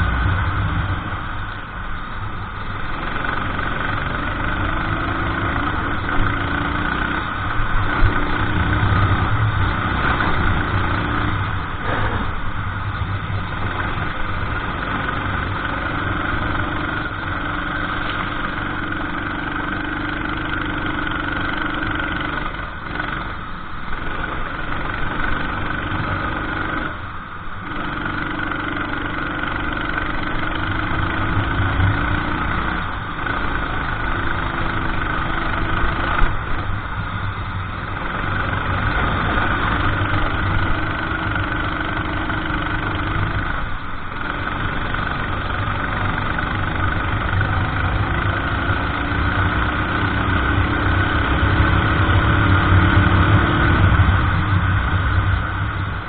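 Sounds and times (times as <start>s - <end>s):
racing kart engine running: 0.0s - 56.0s.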